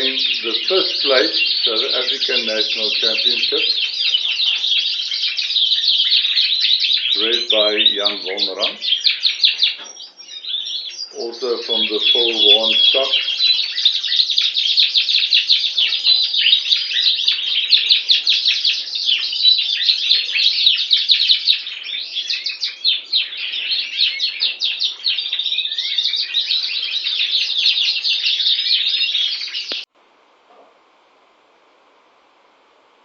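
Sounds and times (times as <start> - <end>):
canary singing: 0.0 - 29.9.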